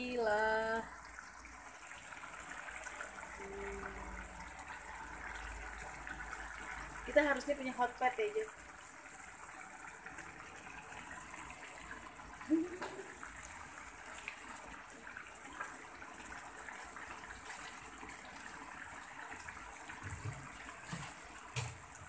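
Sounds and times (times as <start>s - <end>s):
sauce bubbling and sizzling in pan: 0.0s - 22.0s.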